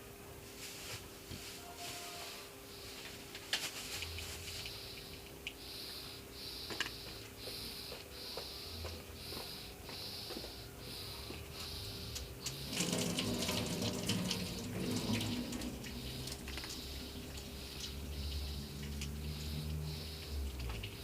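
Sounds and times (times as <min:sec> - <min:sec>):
cat eating hiss: 0:03.7 - 0:21.0.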